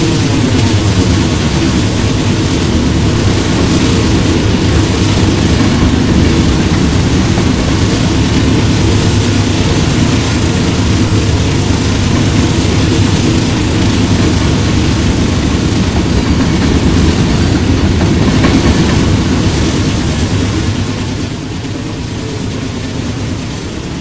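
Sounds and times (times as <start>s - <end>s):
train passing rumble: 0.0s - 24.0s.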